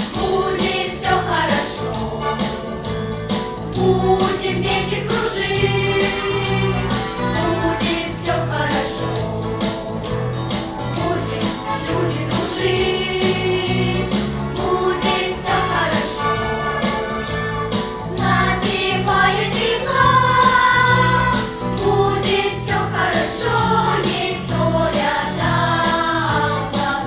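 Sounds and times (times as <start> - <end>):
children's choir singing: 0.0 - 3.0, 3.8 - 10.1, 10.8 - 17.5, 18.1 - 27.0
backing track with steady beat: 0.0 - 27.0.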